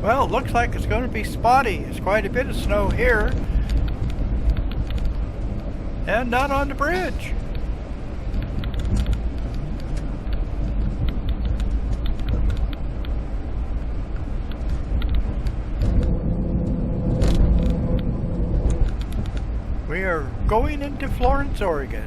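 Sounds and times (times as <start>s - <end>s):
car road noise rumble: 0.0s - 22.0s
steady hum: 0.0s - 22.0s.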